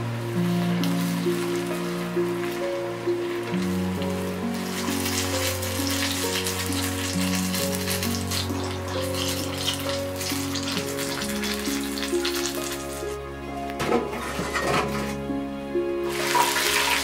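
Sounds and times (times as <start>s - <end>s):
vegetables deep-frying in oil: 0.0s - 13.2s, 16.0s - 17.0s
background music: 0.0s - 17.0s.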